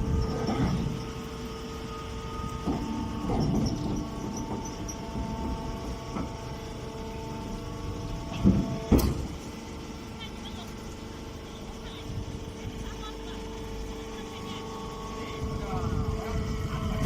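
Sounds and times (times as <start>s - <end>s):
hay baler running: 0.0s - 17.0s.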